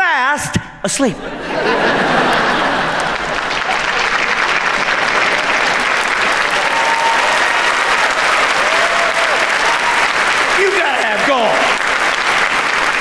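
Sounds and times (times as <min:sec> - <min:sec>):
audience applauding: 0:01.6 - 0:13.0.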